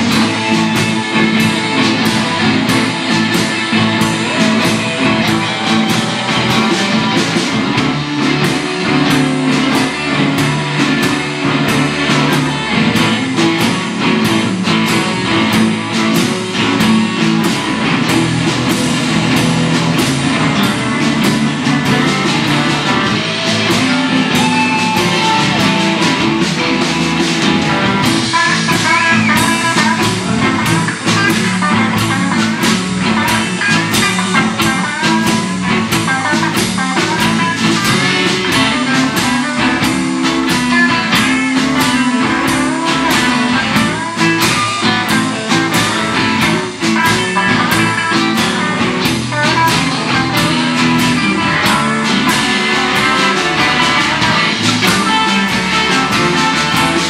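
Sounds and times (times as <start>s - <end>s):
electric blues band playing: 0.0s - 57.0s.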